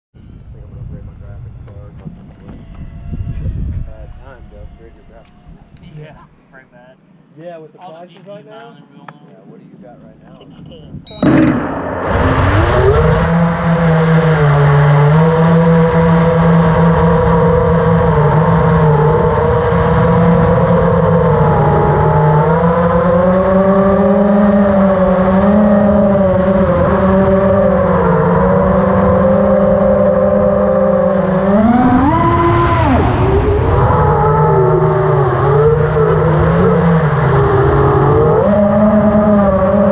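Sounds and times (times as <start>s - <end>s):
drone motors buzzing whine: 0.2s - 6.6s, 11.1s - 39.9s.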